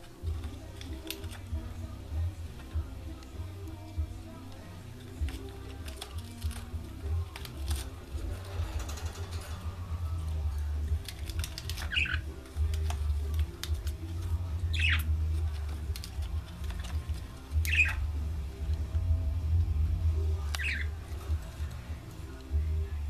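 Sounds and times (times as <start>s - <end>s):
budgies chirping: 0.0s - 18.7s, 20.4s - 22.4s.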